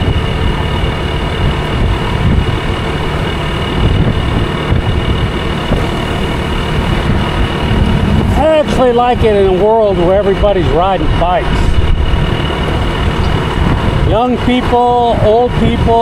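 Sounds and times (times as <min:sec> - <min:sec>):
scooter engine cruising: 0:00.0 - 0:16.0
wind rumble on microphone: 0:00.0 - 0:16.0.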